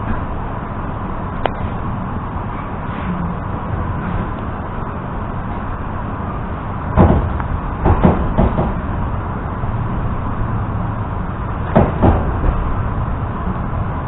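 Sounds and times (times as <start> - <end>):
train running gear rumble: 0.0 - 14.0.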